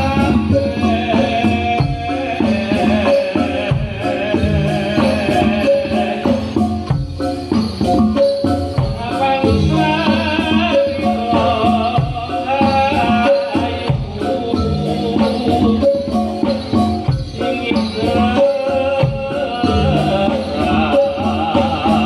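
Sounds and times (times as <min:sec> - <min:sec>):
drums: 0:00.0 - 0:22.0
tuned metal percussion: 0:00.0 - 0:22.0.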